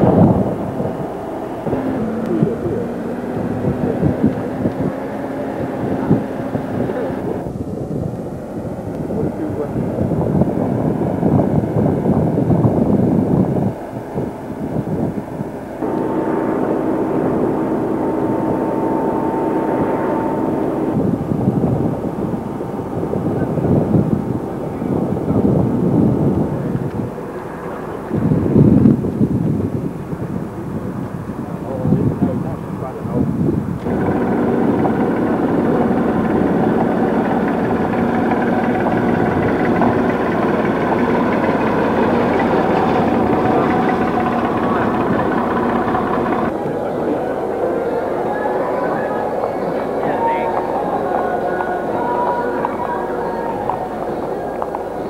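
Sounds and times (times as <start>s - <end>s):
aircraft engine whine: 0.0s - 55.0s.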